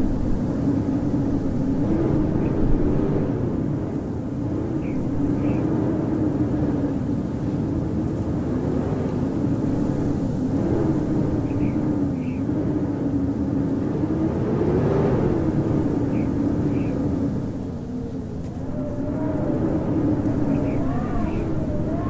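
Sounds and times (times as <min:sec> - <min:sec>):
blizzard wind howling: 0:00.0 - 0:22.0.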